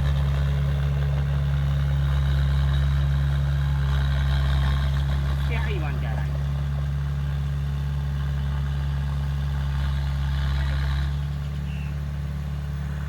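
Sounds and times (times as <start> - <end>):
heavy machine engine droning: 0.0 - 13.0.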